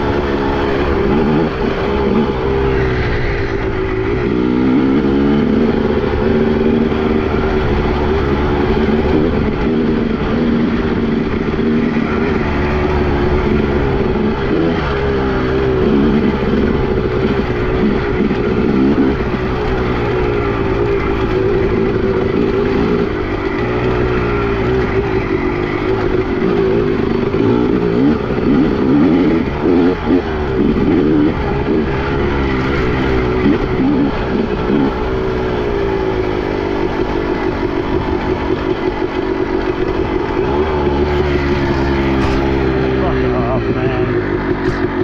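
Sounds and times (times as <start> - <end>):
two-stroke motorcycle engine revving: 0.0 - 45.0.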